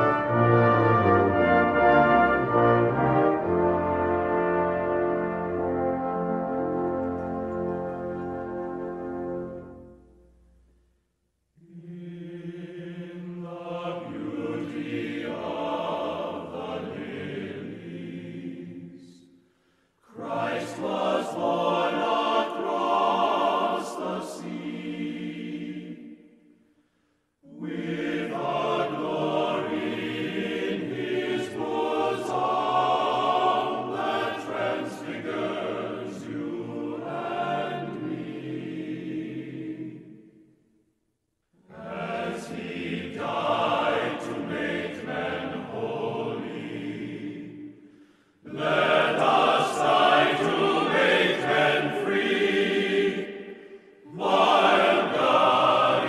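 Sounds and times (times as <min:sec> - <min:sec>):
choir singing: 0:00.0 - 0:10.2, 0:11.6 - 0:19.4, 0:20.0 - 0:26.8, 0:27.4 - 0:40.7, 0:41.6 - 0:56.0.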